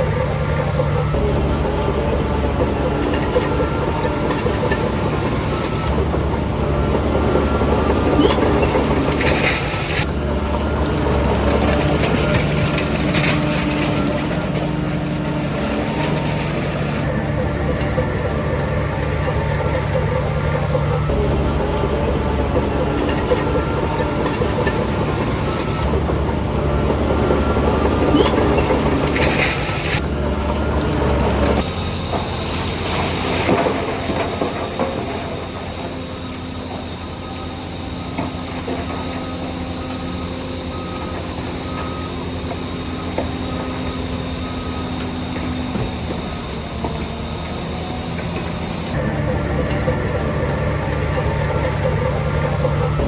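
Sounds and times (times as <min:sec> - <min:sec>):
rattling clatter: 0:00.0 - 0:50.1
bulldozer diesel engine: 0:00.0 - 0:53.0
reversing alarm beeping: 0:00.0 - 0:53.0.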